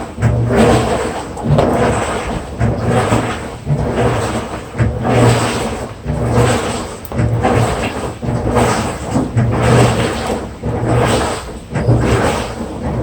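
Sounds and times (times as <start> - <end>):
washing machine swishing water: 0.0 - 13.0.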